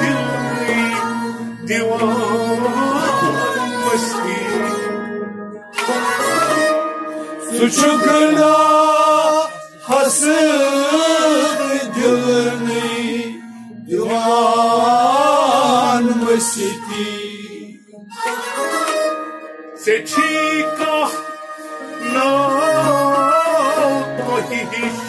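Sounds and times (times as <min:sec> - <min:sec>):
man singing ornamented phrases: 0:00.0 - 0:05.2, 0:05.8 - 0:17.9, 0:19.8 - 0:25.0
held instrumental accompaniment: 0:00.0 - 0:25.0.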